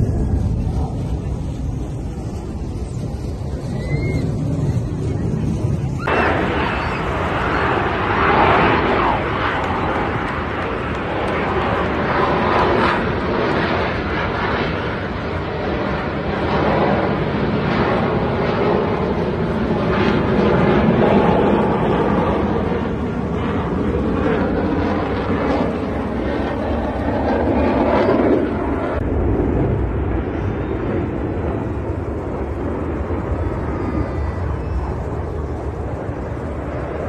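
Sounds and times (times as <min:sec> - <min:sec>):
jet aircraft flying past: 0:00.0 - 0:37.0.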